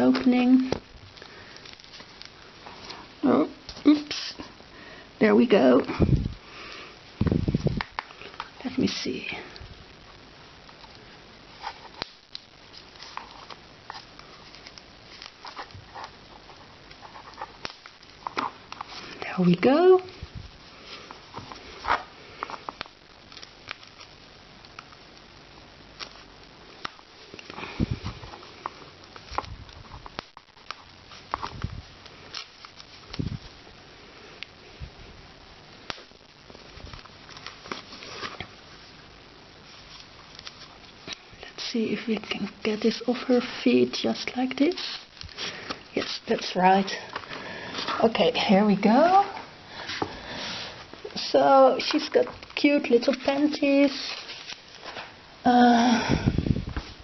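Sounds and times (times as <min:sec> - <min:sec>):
packaging rustling: 0:00.1 - 0:04.6, 0:10.7 - 0:19.4, 0:20.1 - 0:25.3, 0:25.9 - 0:33.7, 0:35.7 - 0:55.3.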